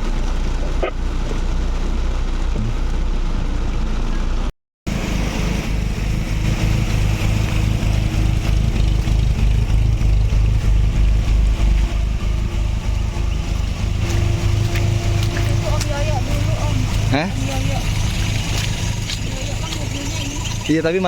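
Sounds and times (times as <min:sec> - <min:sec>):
off-road vehicle engine running: 0:00.0 - 0:21.0.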